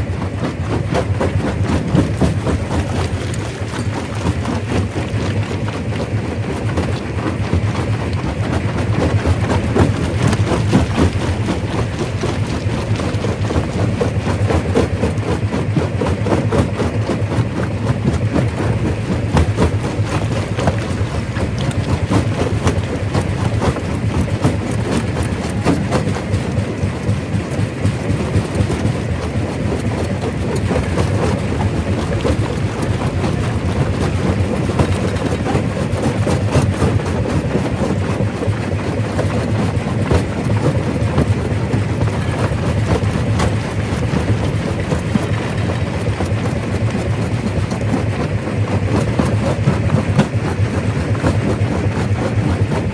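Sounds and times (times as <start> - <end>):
low machine running noise: 0.0 - 52.9.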